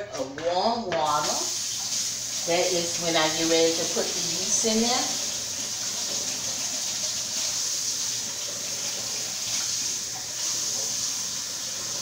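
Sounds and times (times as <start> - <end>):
tap running water: 0.2 - 12.0.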